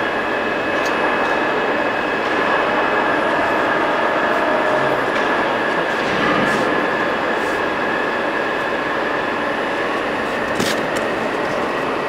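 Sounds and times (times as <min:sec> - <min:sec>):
constant high whine: 0:00.0 - 0:12.0
lathe machine running: 0:00.0 - 0:12.0.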